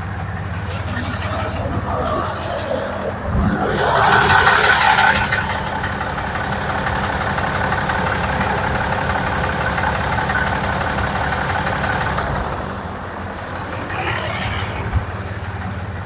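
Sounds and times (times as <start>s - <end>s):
steady mechanical running noise: 0.0s - 16.0s.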